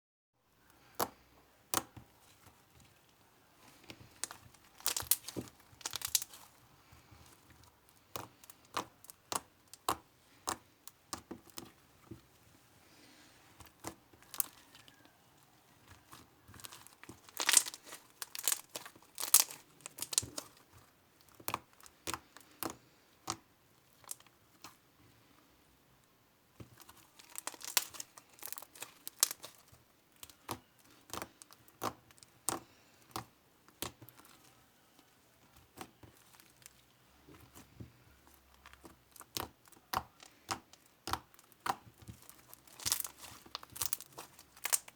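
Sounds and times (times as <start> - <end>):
slime squelching and crackling: 0.8 - 12.0, 13.4 - 24.8, 26.6 - 44.9.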